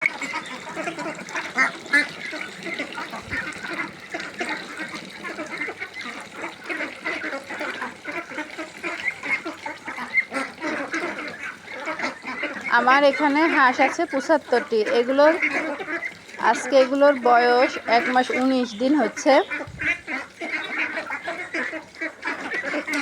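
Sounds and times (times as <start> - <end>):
ducklings calling: 0.0 - 23.0.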